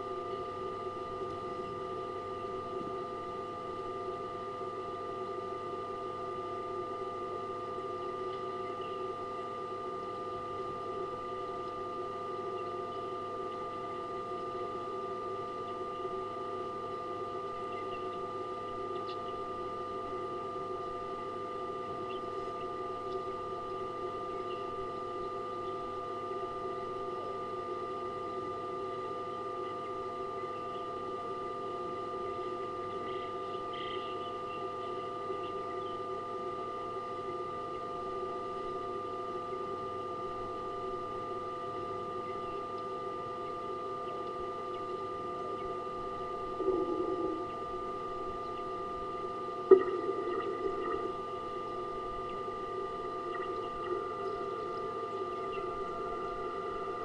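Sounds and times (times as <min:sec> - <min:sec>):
electrical hum and whine: 0:00.0 - 0:57.0.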